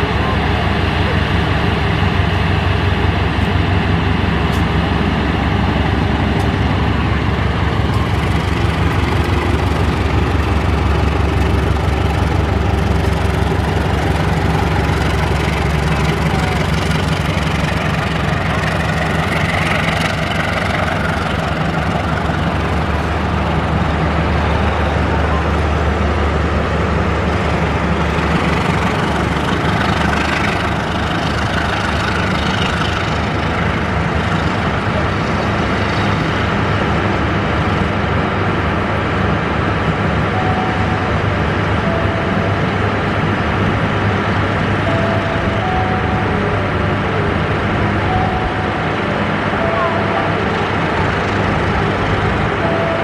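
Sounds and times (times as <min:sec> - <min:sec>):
diesel locomotive engine droning: 0:00.0 - 0:53.0.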